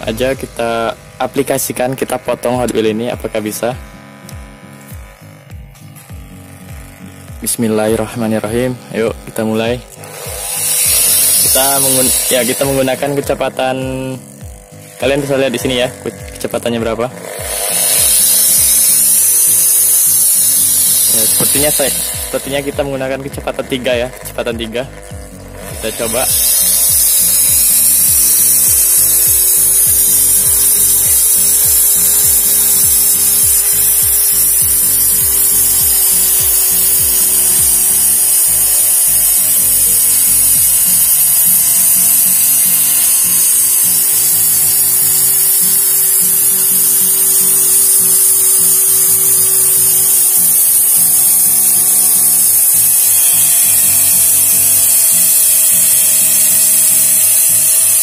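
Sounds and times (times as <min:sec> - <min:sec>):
die grinder cutting metal: 0:00.0 - 0:58.0.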